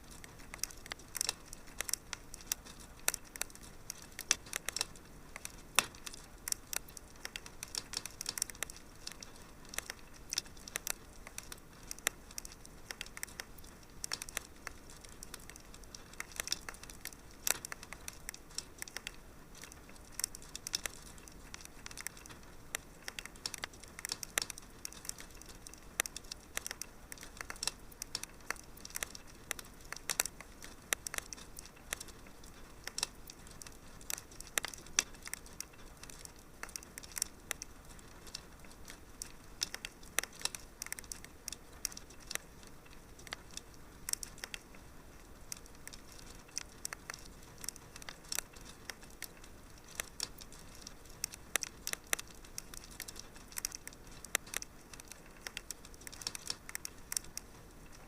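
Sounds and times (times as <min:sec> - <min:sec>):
fire pops and snaps: 0:00.0 - 0:58.0
soft hiss: 0:00.0 - 0:58.0
wood fire crackling: 0:00.0 - 0:58.0.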